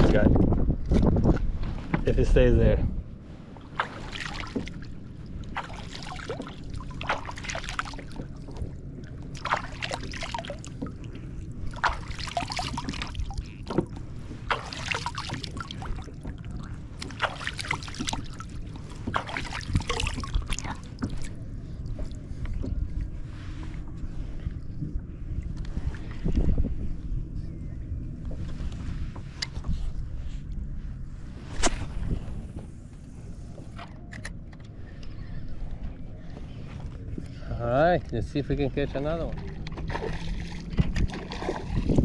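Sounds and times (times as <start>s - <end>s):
waves slapping against hull: 0.0s - 34.2s, 35.6s - 42.0s
steady low rumble: 0.0s - 42.0s.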